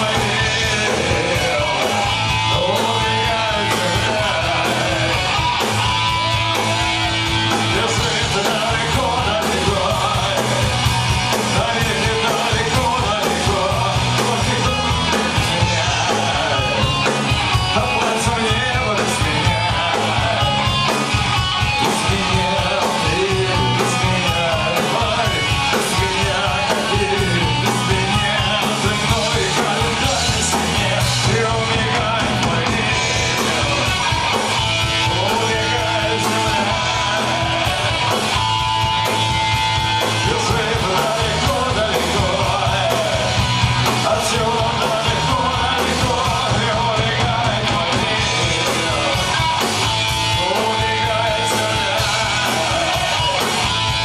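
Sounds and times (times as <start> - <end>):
person singing: 0.0 - 54.0
punk rock band playing: 0.0 - 54.0.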